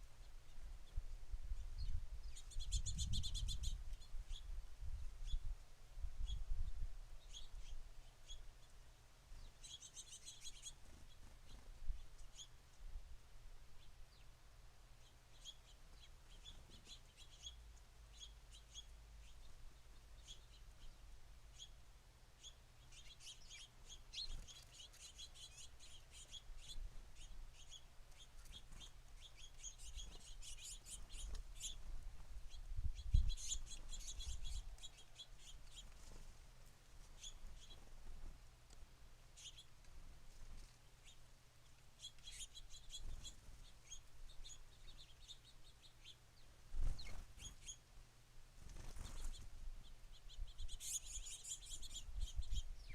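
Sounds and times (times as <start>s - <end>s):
small songbirds chirping: 0.0s - 52.9s.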